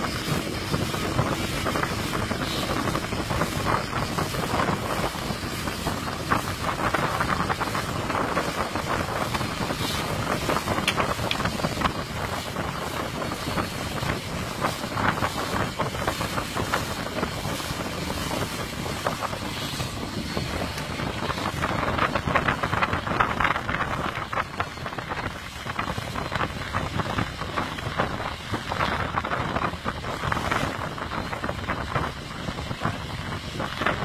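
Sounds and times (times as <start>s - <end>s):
motorboat engine: 0.0s - 34.0s
water rushing: 0.0s - 34.0s
wind buffeting microphone: 0.0s - 34.0s.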